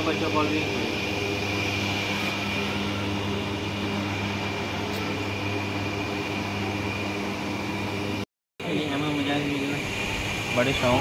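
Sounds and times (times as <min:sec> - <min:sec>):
electric motor hum: 0:00.0 - 0:11.0
high whine: 0:00.0 - 0:11.0.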